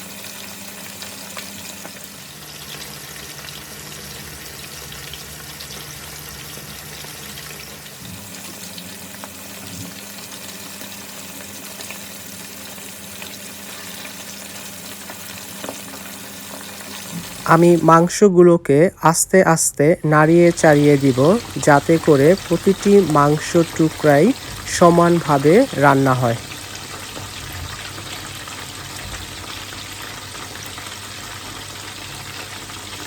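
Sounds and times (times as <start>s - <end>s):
chicken sizzling in oil: 0.0s - 18.2s, 20.2s - 33.0s.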